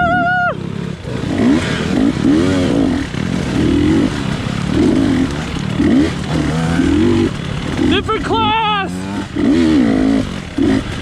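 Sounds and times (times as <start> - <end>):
dirt bike engine revving: 0.0 - 11.0
bike clattering: 1.2 - 11.0.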